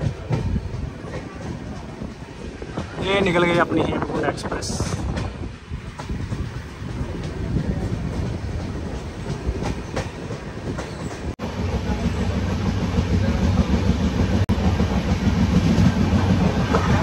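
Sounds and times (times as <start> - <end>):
rail-joint clacks: 0.0 - 12.1, 13.3 - 17.0
train wheels rumbling and rattling: 0.0 - 17.0.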